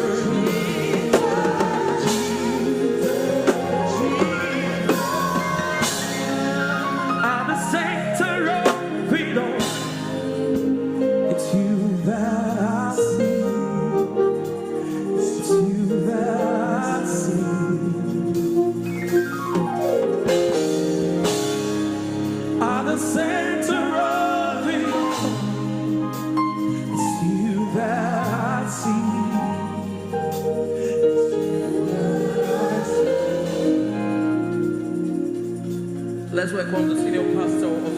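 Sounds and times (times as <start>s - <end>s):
voices singing gospel: 0.0s - 19.9s, 21.0s - 37.9s
keyboard accompaniment: 0.0s - 37.9s.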